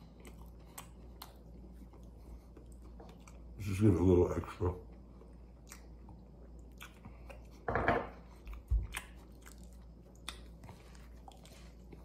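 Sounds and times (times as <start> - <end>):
person chewing sandwich: 0.0 - 3.6, 4.8 - 12.0.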